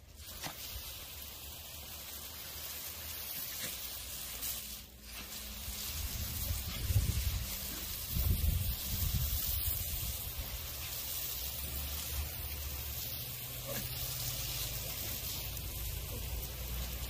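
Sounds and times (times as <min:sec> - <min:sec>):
hose spraying water onto lawn: 0:00.0 - 0:17.0.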